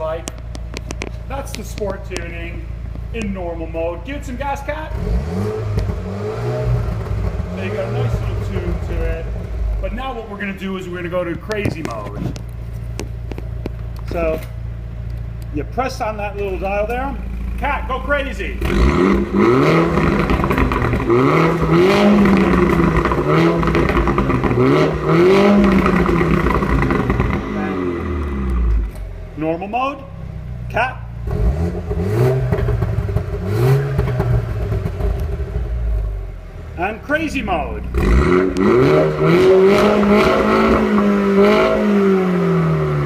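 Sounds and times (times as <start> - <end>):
car engine revving: 0.0 - 43.0
exhaust crackle: 0.0 - 43.0.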